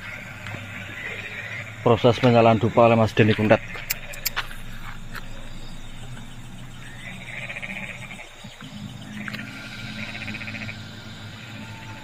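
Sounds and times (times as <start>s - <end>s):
frog buzzy trills: 0.0s - 12.0s
steady low hum: 0.0s - 12.0s.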